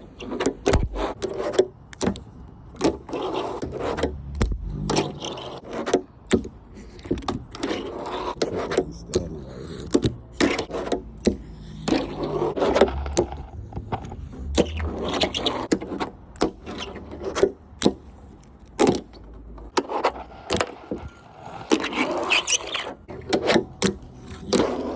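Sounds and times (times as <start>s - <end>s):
fingerboard scraping: 0.0s - 24.9s
fingerboard wheels rolling: 0.0s - 24.9s.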